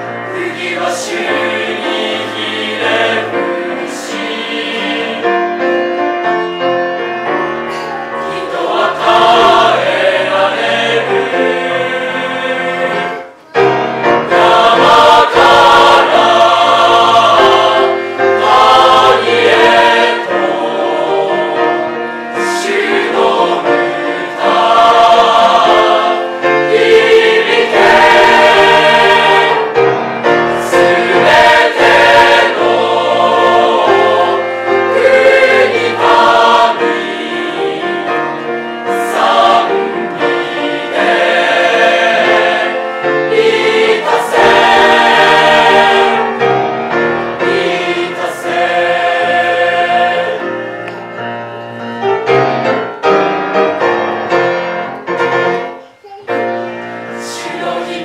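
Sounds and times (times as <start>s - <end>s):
choir singing a sacred song: 0.0s - 5.9s, 8.1s - 50.7s, 56.7s - 58.0s.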